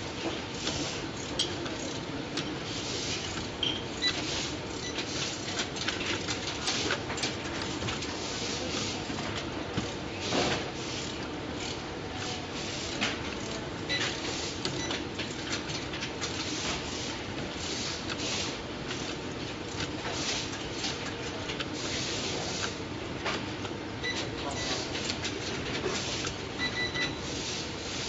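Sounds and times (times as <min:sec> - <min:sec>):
machine clicks and clacks: 0:00.2 - 0:27.2.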